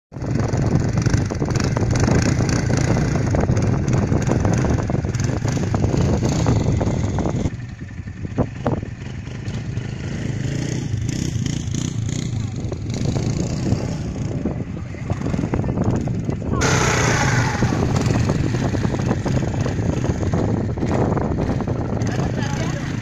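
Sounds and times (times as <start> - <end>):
quad bike engines humming: 0.2 - 23.0.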